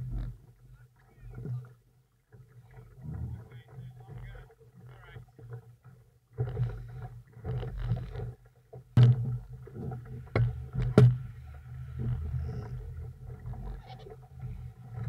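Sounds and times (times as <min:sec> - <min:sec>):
low uneven rumble: 0:00.0 - 0:15.0
water against boat hull: 0:00.0 - 0:15.0.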